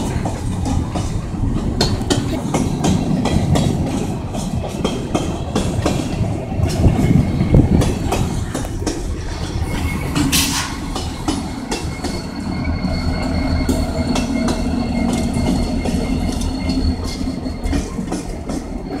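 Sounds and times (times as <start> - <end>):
diesel locomotive engine hum: 0.0 - 19.0
train wheels clacking over rail joints: 0.0 - 19.0.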